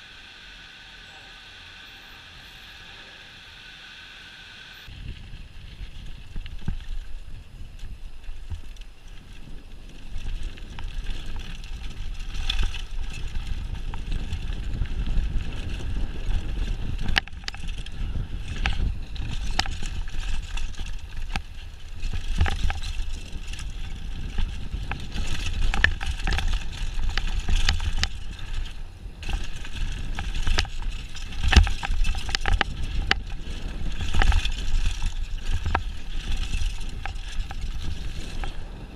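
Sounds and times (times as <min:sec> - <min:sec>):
wind and tyres rumbling: 0:00.0 - 0:38.9
bike rattles and knocks: 0:04.8 - 0:38.9.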